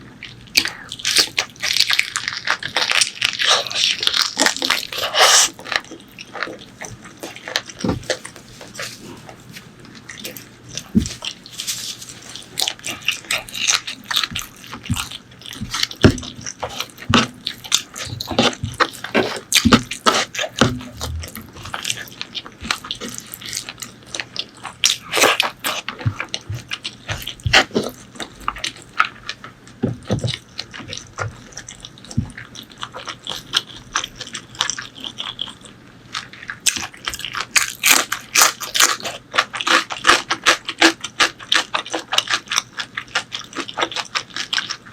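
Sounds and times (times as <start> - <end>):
wet chewing and mouth smacking: 0.1 - 44.9.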